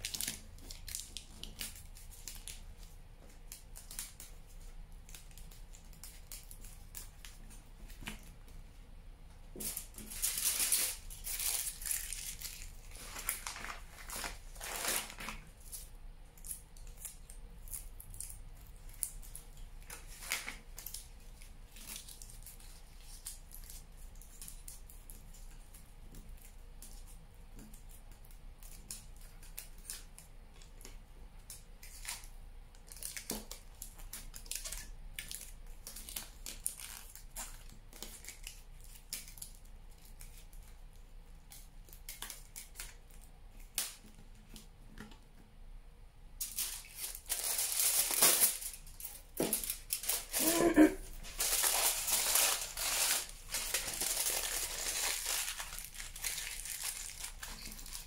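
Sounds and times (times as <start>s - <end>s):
aluminium foil crinkling: 0.0s - 8.5s, 9.5s - 44.7s, 46.4s - 58.0s.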